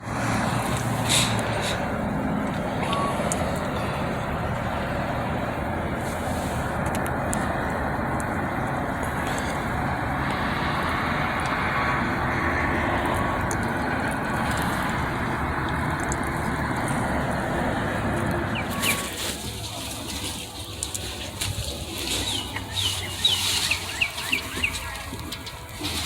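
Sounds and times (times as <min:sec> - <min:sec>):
water rushing down cascade: 0:00.0 - 0:26.0.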